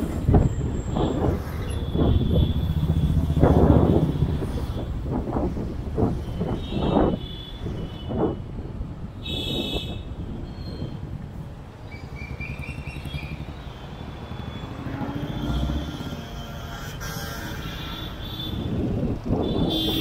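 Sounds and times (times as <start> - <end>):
road rumble: 0.0 - 20.0
vehicles passing: 0.0 - 20.0.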